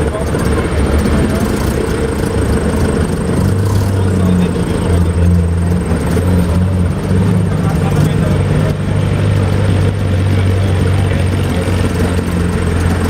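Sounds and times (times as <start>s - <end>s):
sports car engine running: 0.0s - 13.0s.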